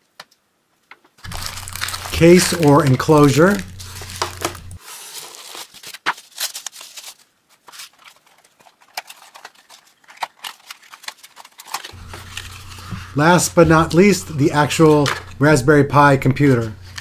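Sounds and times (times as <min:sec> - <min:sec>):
bubble wrap rustling: 0:01.2 - 0:15.4.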